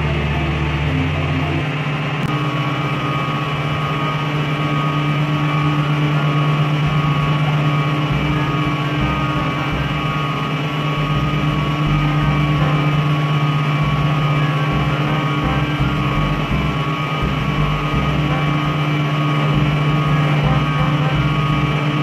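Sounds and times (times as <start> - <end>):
machine humming drone: 0.0 - 22.0.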